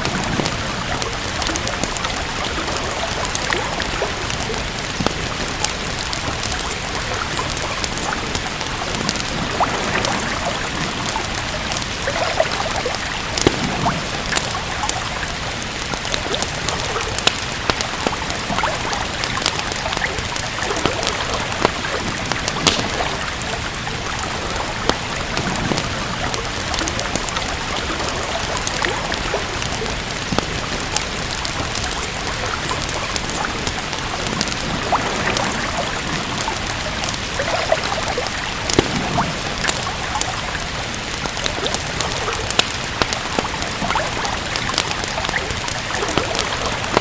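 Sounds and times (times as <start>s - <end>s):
steady rain: 0.0s - 47.0s
wood fire crackling: 0.0s - 47.0s.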